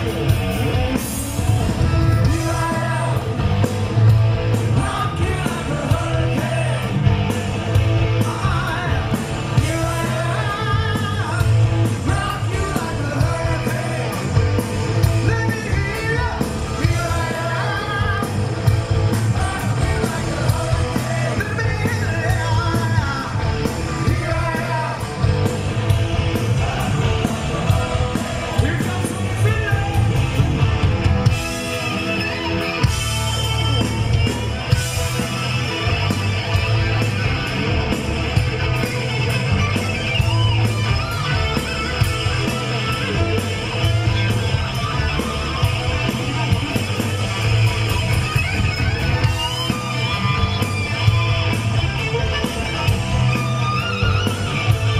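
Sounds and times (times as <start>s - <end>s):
bass guitar: 0.0s - 54.9s
distorted electric guitars: 0.0s - 54.9s
drums: 0.0s - 54.9s.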